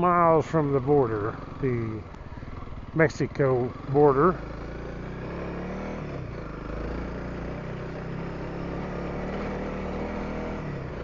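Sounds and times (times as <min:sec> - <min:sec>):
motorcycle engine running: 0:00.0 - 0:11.0
road rumble: 0:00.0 - 0:11.0.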